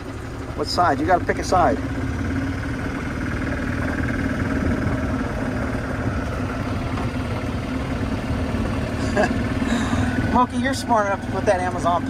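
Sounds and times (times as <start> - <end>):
golf cart motor humming: 0.0 - 12.0
tyres rumbling on gravel: 0.0 - 12.0.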